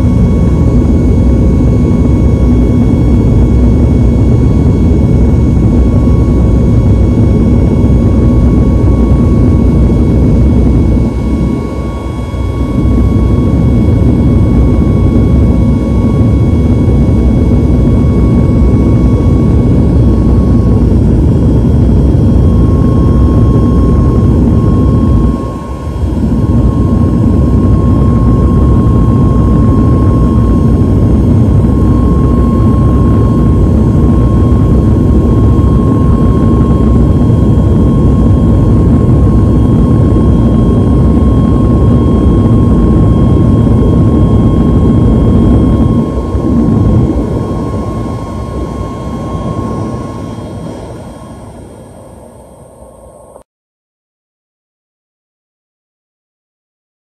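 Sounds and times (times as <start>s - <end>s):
airliner cabin engine rumble: 0.0s - 53.4s
thin steady whine: 0.0s - 53.4s.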